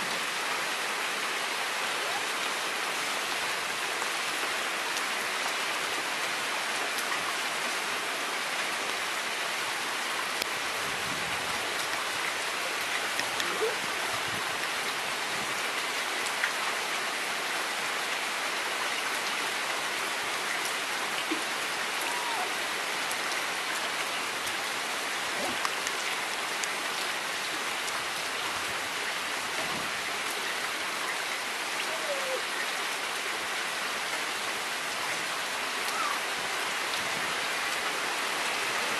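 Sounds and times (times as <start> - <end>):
steady rain on wet ground: 0.0 - 38.9.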